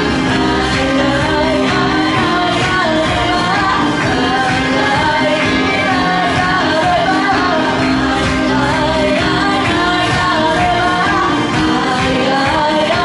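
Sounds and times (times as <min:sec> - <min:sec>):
backing track music: 0:00.0 - 0:13.0
woman singing into a microphone: 0:00.0 - 0:13.0.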